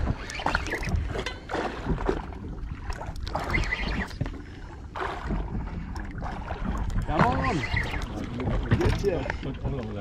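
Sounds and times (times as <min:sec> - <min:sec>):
wind and sea rumble: 0:00.0 - 0:10.0.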